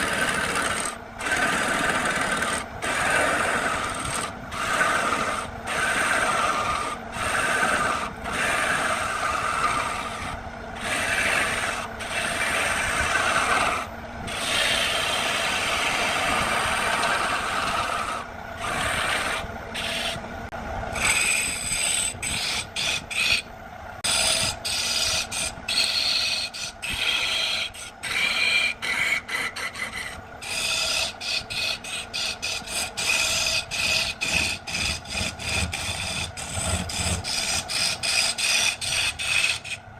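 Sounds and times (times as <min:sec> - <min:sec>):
lathe tool rasping wood: 0:00.0 - 0:20.2, 0:20.9 - 0:39.9.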